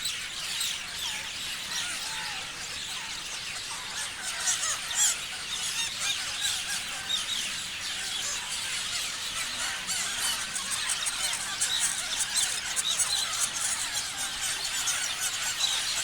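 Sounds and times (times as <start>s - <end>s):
parrots chirping and screeching: 0.0s - 16.0s.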